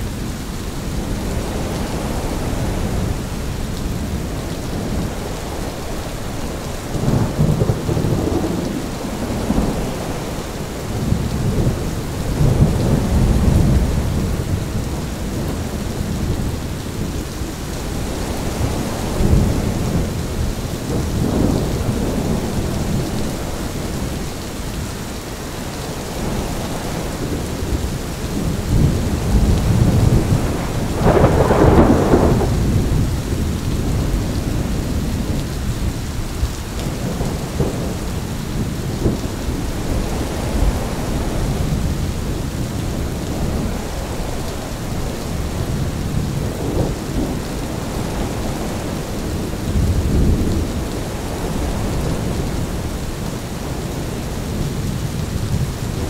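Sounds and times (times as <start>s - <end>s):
rolling thunder: 0.0s - 24.8s, 26.1s - 56.0s
gusting wind: 0.0s - 56.0s
steady rain: 0.0s - 56.0s.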